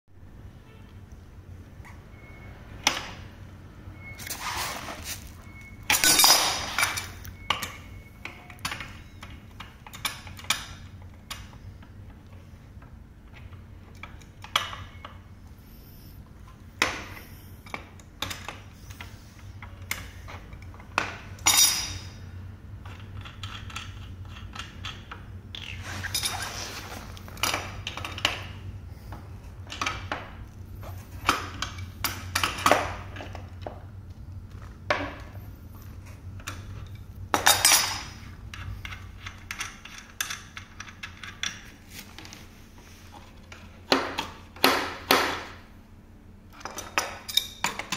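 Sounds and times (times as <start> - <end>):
steady low hum: 0.1 - 47.9.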